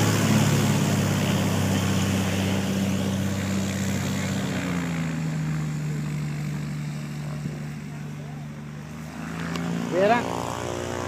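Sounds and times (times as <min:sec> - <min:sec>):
propeller plane engine humming: 0:00.0 - 0:11.0.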